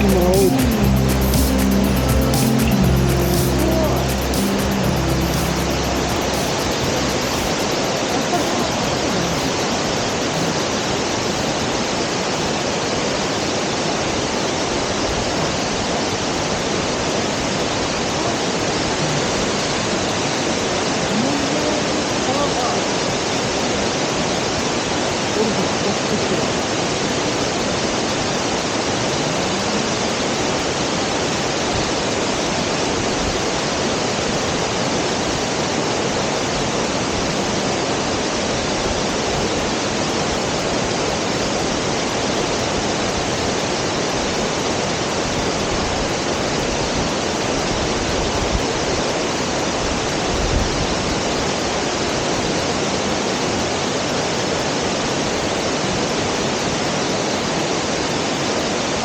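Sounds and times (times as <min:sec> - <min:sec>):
waterfall roaring: 0:00.0 - 0:50.3.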